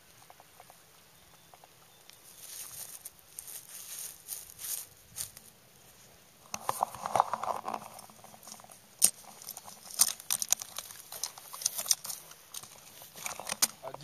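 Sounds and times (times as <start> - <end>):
dry grass and twigs crackling: 0.0 - 14.0.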